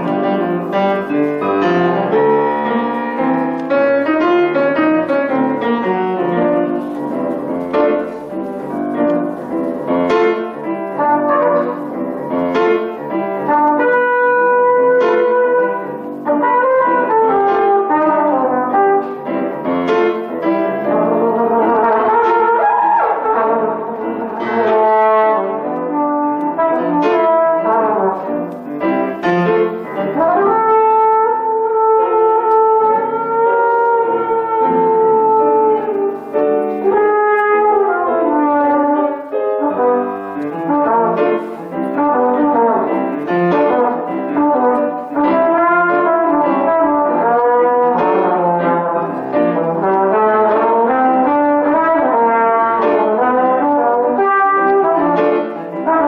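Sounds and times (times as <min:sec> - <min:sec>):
brass instrument playing slow melody: 0:00.0 - 0:56.0
piano accompaniment: 0:00.0 - 0:56.0.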